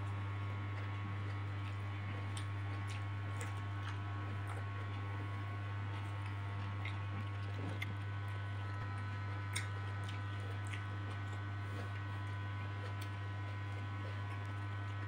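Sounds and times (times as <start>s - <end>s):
steady low hum: 0.0s - 15.0s
person chewing: 0.7s - 15.0s.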